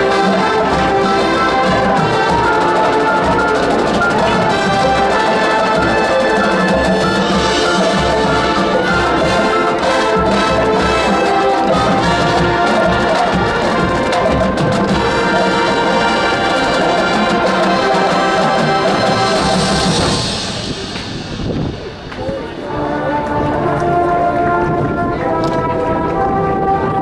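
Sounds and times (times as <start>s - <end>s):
drums: 0.0s - 24.8s
marching band playing: 0.0s - 27.0s
trumpets and trombones: 0.0s - 27.0s.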